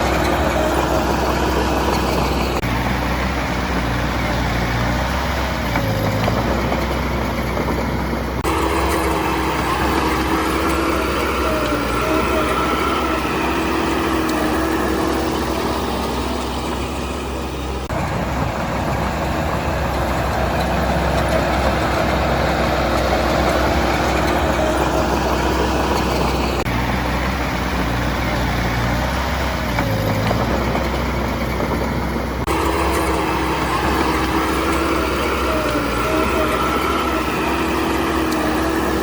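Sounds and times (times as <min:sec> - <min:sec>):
diesel construction machinery running: 0:00.0 - 0:39.0.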